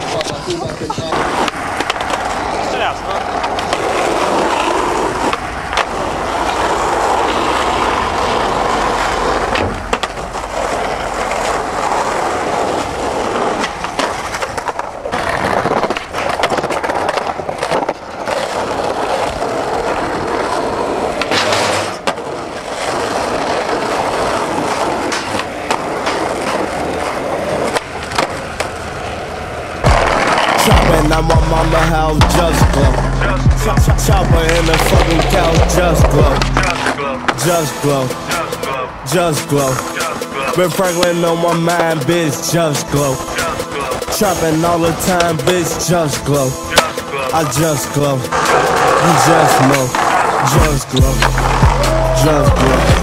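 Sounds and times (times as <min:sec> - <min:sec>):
skateboard clacks: 0:00.0 - 0:53.0
skateboard wheels rolling on asphalt: 0:00.0 - 0:53.0.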